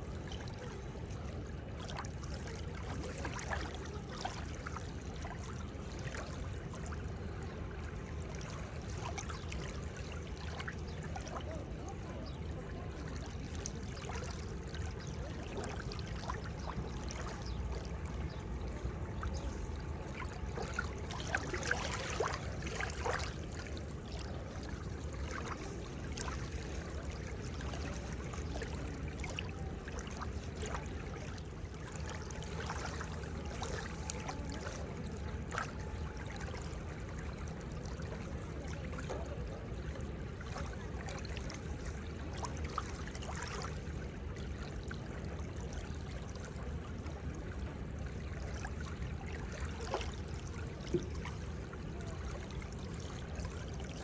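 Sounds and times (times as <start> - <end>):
seawater lapping at shore: 0.0 - 54.0.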